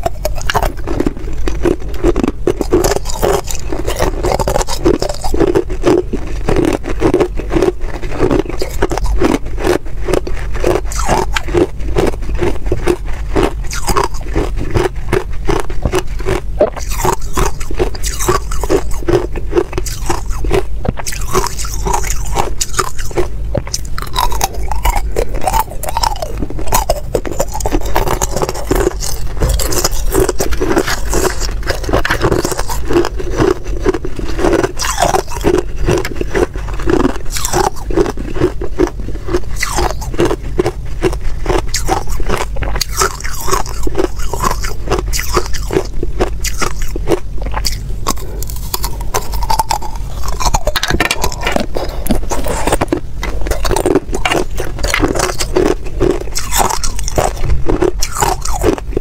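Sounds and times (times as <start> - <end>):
ice crunched between teeth: 0.0 - 59.0.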